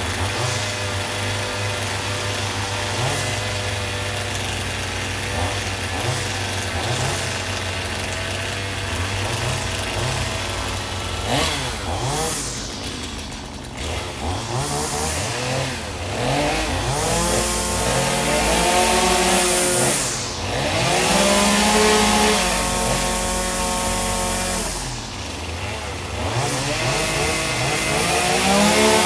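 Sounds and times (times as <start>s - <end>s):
small engine revving: 0.0s - 29.0s.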